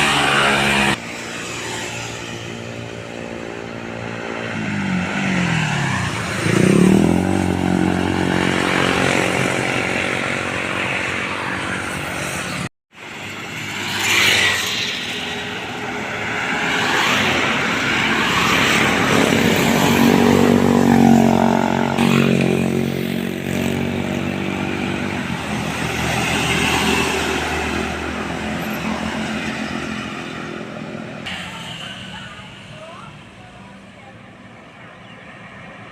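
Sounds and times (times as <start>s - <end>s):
diesel trucks passing by: 0.0s - 35.9s.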